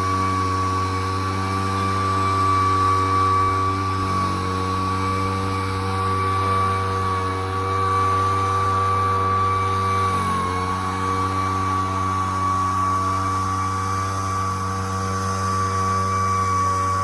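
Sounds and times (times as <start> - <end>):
leaf blower running: 0.0 - 17.0.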